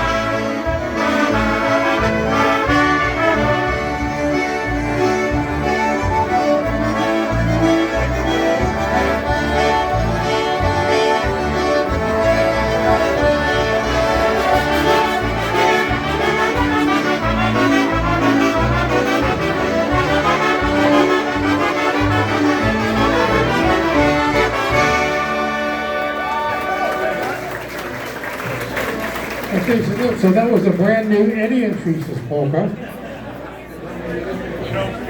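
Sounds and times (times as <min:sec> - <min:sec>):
concertinas playing a polka: 0:00.0 - 0:32.1.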